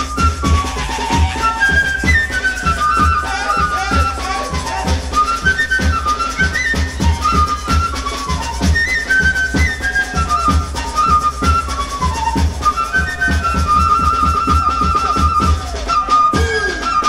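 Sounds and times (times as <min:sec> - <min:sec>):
flute melody: 0:00.0 - 0:17.0
steady drumbeat: 0:00.0 - 0:17.0.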